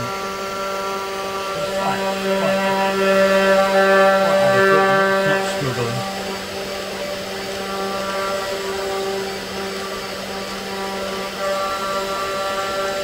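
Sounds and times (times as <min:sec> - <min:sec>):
hiss of cutting wood: 0:00.0 - 0:13.0
router spindle whine: 0:00.0 - 0:13.0.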